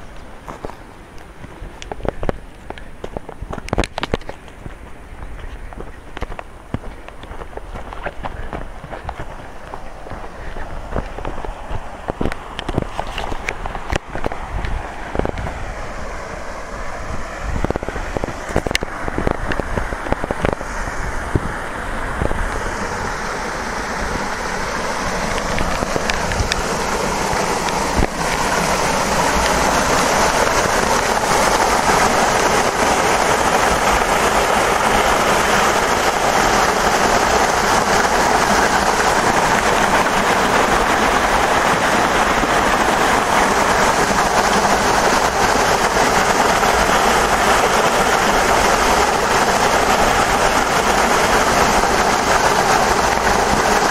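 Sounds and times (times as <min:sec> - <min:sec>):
waterfall splashing into pool: 0:00.0 - 0:53.9.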